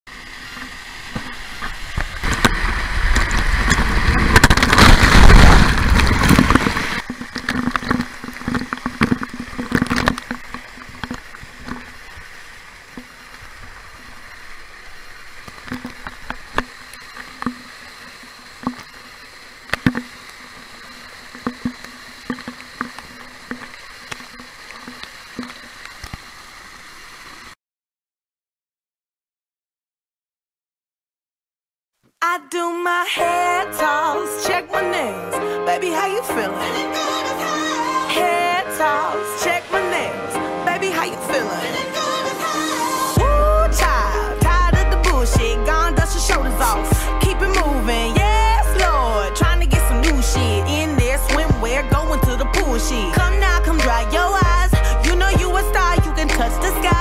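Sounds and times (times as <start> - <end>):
falling water splashing: 0.1 - 27.6, 36.2 - 57.0
waterfall rushing: 0.1 - 27.6, 33.2 - 57.0.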